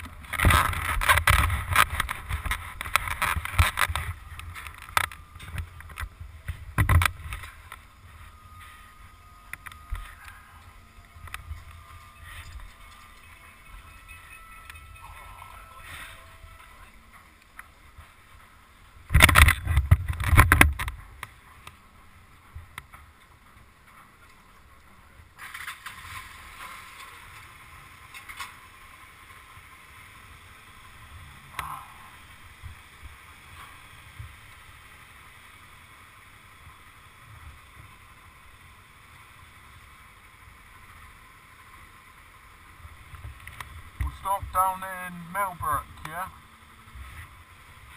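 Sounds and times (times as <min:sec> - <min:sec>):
ferry low rumble and hiss: 0:00.0 - 0:47.9.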